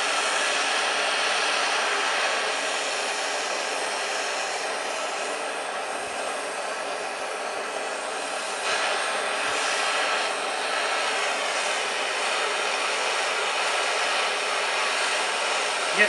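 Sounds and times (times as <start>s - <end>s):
gas torch flame: 0.0s - 16.0s.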